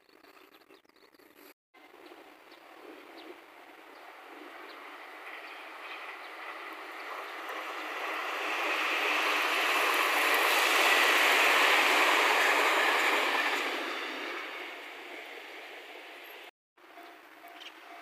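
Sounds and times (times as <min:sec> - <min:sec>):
electric train passing: 0:01.8 - 0:18.0.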